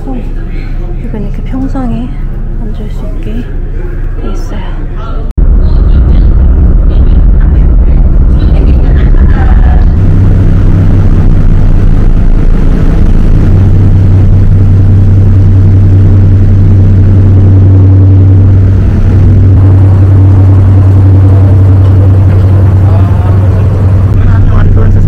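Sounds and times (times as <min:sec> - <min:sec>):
ferry engines droning: 0:00.0 - 0:25.0.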